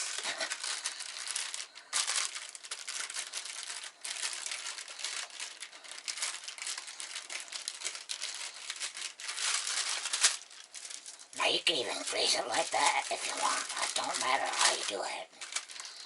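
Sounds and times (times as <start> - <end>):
paper crinkling and rustling: 0.0 - 16.0.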